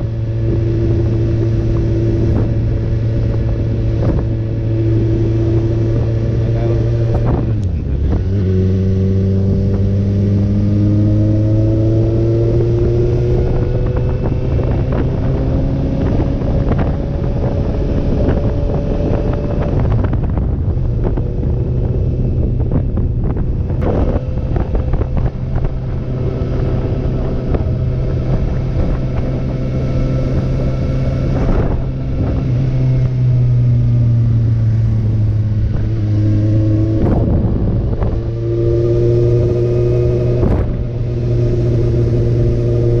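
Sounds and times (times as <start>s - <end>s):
motorcycle engine running: 0.0s - 43.0s
wind and road noise: 0.0s - 43.0s.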